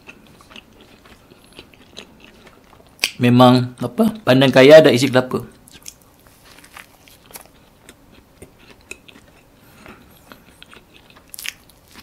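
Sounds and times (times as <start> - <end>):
chewing a sandwich: 0.0 - 3.2, 5.6 - 12.0.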